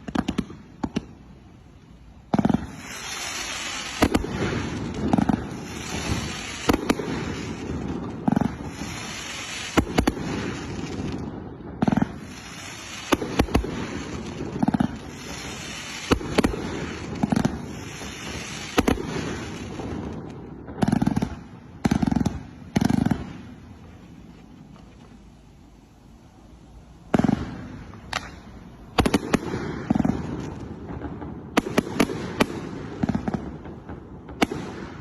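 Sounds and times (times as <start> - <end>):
firework hissing crackle: 0.0 - 35.0
firework reports: 0.0 - 35.0.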